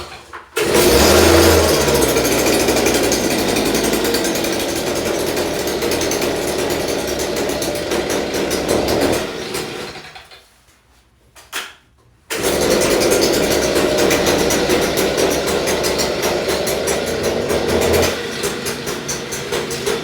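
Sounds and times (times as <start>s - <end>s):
leaf blower engine: 0.0s - 10.4s, 12.3s - 20.0s.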